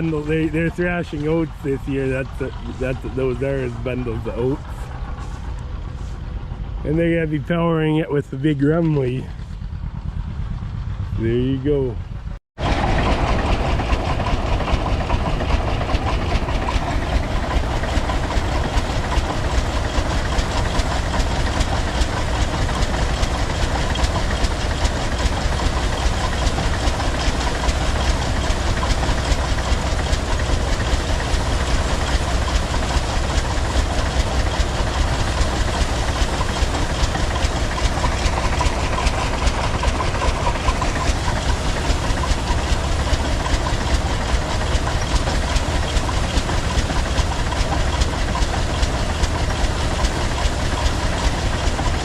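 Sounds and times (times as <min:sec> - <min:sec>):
threshing machine clatter: 0:00.0 - 0:07.2, 0:12.6 - 0:52.0
tractor engine running: 0:00.0 - 0:52.0.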